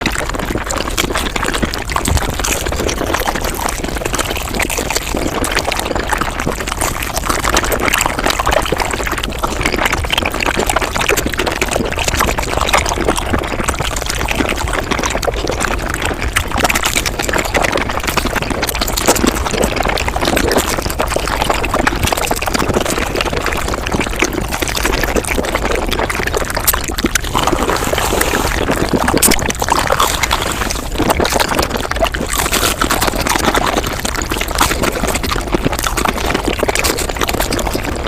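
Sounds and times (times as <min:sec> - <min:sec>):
sped-up chewing and mouth clicks: 0:00.0 - 0:38.0.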